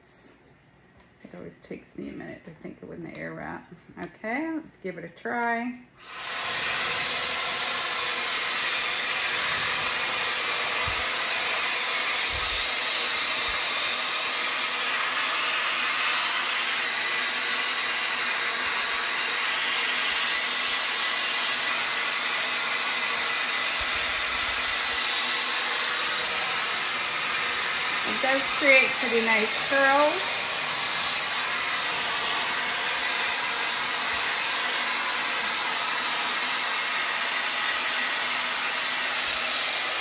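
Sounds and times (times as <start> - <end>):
hair styler blowing air: 6.0 - 40.0.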